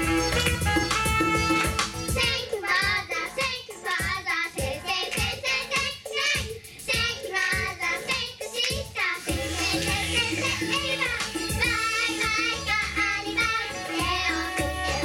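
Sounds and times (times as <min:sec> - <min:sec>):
backing track with steady beat: 0:00.0 - 0:15.0
girls singing pop song: 0:01.5 - 0:15.0.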